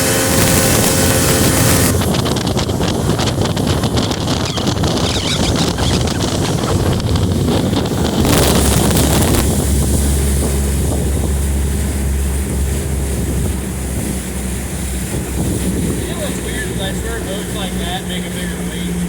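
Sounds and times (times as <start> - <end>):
outboard motor running: 0.0 - 19.0
water rushing: 0.0 - 19.0
wind buffeting microphone: 0.0 - 19.0.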